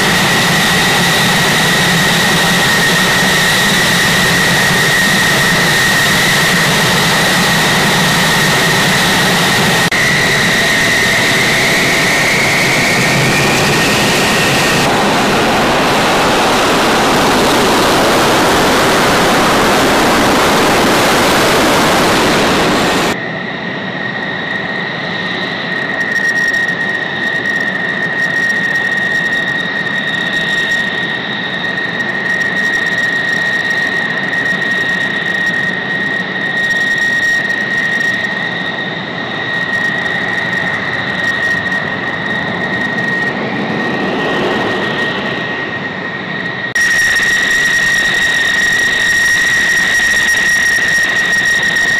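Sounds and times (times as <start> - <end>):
engine spooling up: 0.0 - 51.9
high-pitched jet whine: 0.0 - 51.9
jet engine rushing: 0.0 - 51.9.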